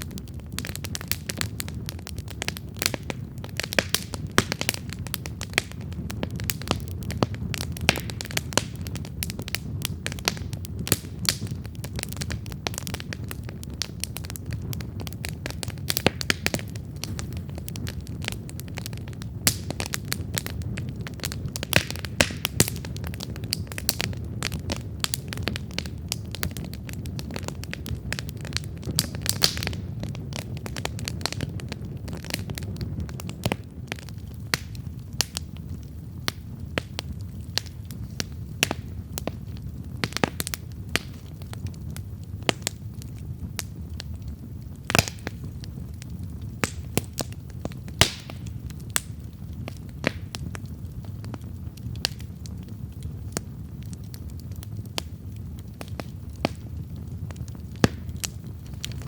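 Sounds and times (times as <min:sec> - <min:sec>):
campfire pops and snaps: 0:00.0 - 0:59.0
low rumble of flames: 0:00.0 - 0:59.0.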